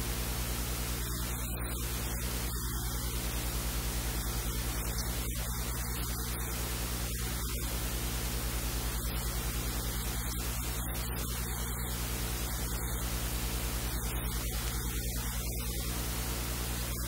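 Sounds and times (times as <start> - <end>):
low electrical hum: 0.0 - 17.0
steady recording hiss: 0.0 - 17.0.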